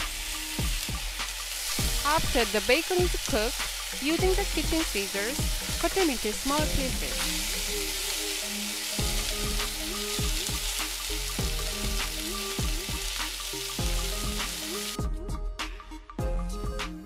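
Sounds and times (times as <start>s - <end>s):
bacon sizzling in a frying pan: 0.0s - 15.0s
background music: 0.0s - 17.0s.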